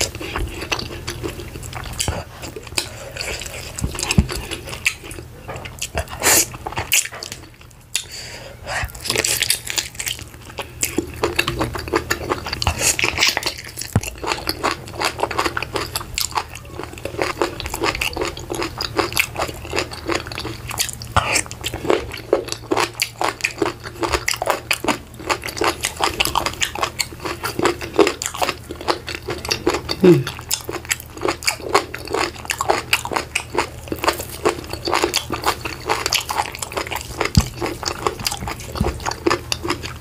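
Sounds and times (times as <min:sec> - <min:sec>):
person chewing food: 0:00.0 - 0:40.0.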